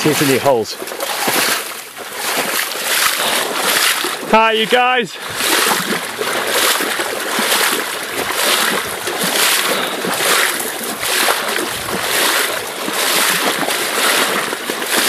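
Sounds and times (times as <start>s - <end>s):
person wading through water: 0.0s - 15.0s.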